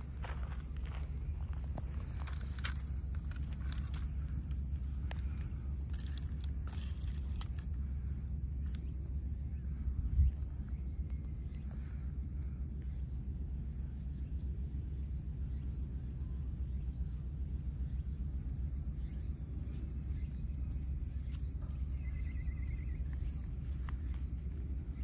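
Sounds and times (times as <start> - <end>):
constant low rumble: 0.0 - 25.0.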